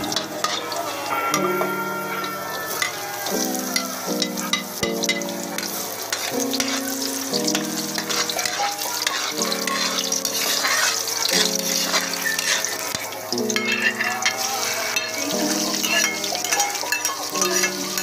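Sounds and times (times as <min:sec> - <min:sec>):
background music: 0:00.0 - 0:18.0
onion and garlic sizzling in oil: 0:00.0 - 0:18.0
spatula scraping a wok: 0:00.0 - 0:18.0.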